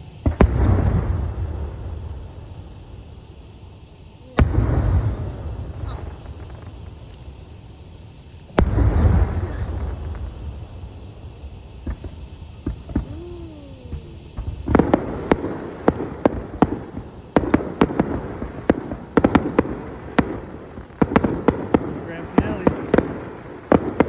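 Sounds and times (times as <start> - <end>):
fireworks popping and banging: 0.0 - 24.0.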